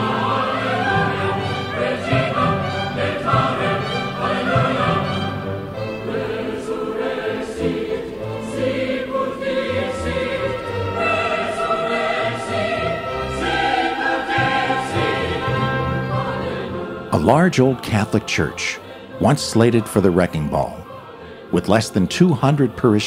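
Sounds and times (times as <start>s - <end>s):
choir singing with orchestra: 0.0s - 23.0s.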